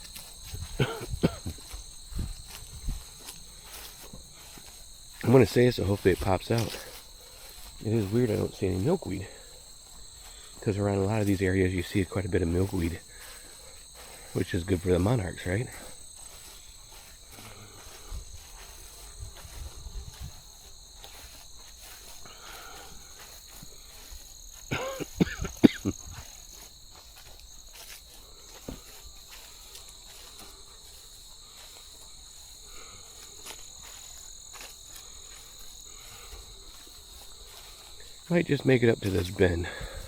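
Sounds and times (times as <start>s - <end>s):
crickets and insects trilling: 0.0s - 40.0s.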